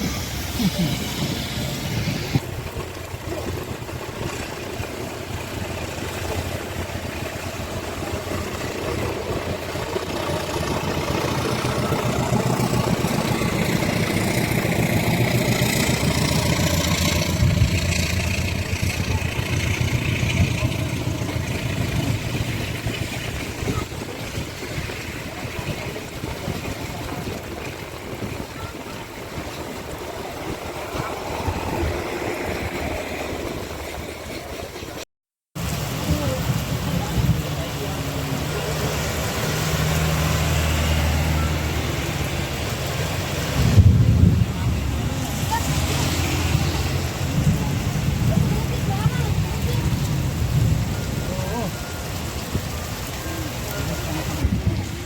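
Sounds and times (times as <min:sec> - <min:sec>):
bus engine passing: 0:00.0 - 0:55.0.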